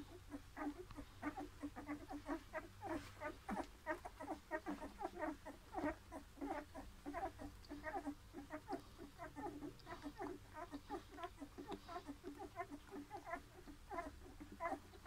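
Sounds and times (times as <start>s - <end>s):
puppies squeaking and whimpering: 0.0s - 15.0s.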